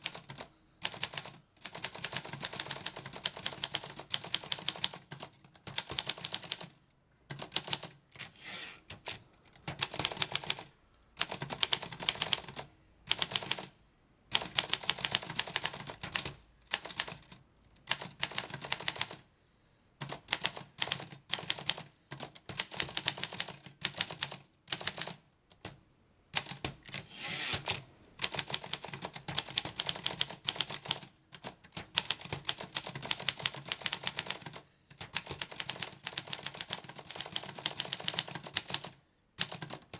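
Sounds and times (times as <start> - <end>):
manual typewriter typing: 0.0 - 13.7, 14.3 - 19.2, 20.0 - 39.9.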